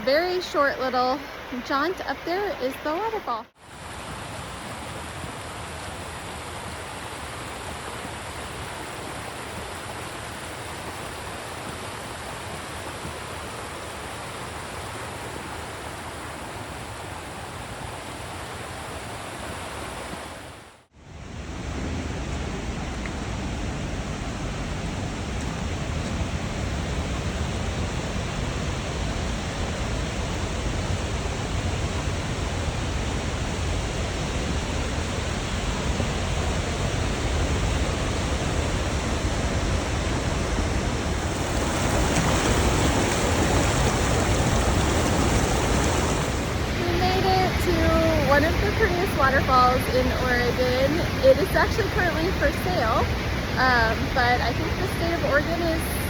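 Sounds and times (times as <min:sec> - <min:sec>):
waterfall and creek rushing: 0:00.0 - 0:56.0.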